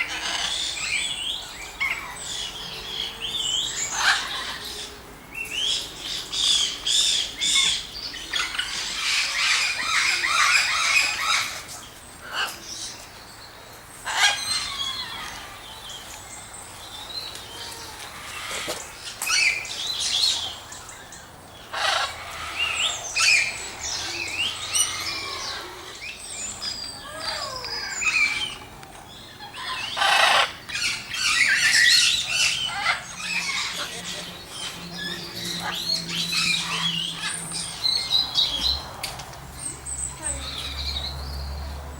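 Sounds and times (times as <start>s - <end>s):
aviary birds chirping and calling: 0.0s - 41.9s.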